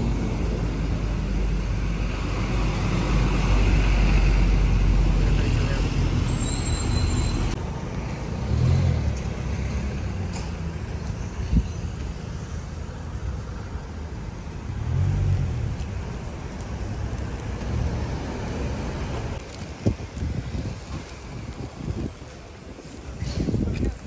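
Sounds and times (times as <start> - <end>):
cars passing: 0.0 - 23.7.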